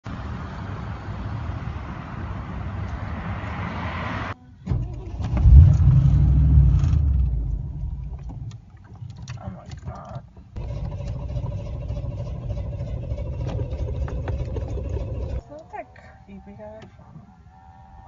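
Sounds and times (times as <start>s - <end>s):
car engine rumble: 0.0s - 15.5s.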